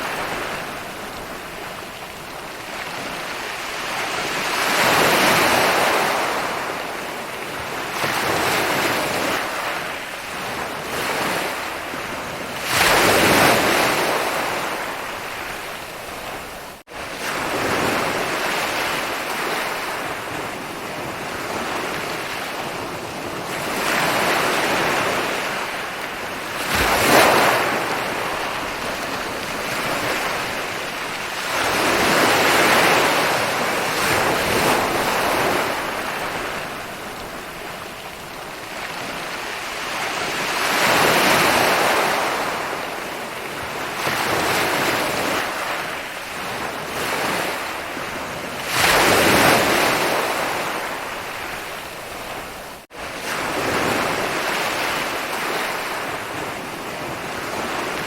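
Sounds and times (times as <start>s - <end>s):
ocean waves breaking on a beach: 0.0s - 58.0s.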